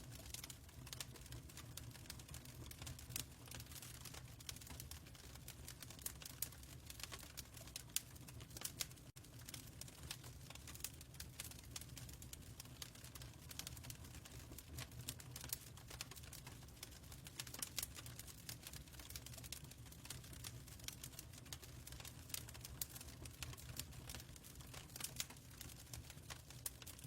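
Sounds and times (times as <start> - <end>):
fireplace fire crackling: 0.0 - 27.0.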